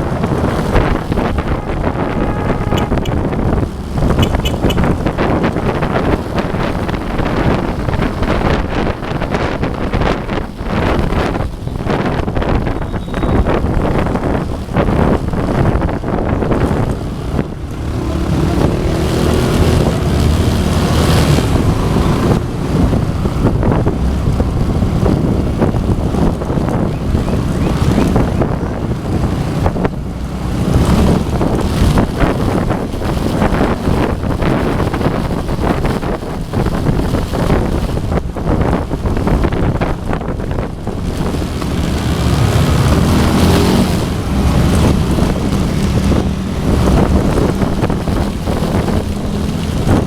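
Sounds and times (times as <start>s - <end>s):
motorcycles on the road: 0.0s - 50.0s
wind buffeting microphone: 0.0s - 50.0s.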